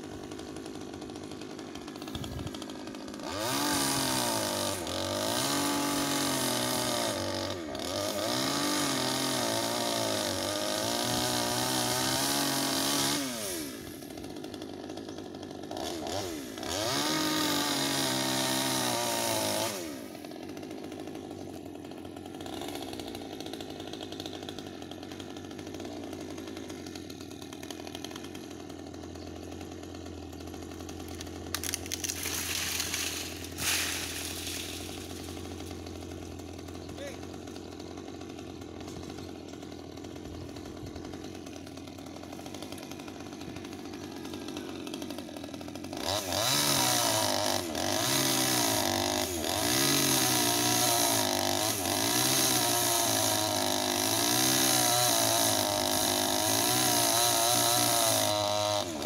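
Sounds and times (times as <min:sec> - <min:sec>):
chainsaw cutting branches: 0:00.0 - 0:59.0.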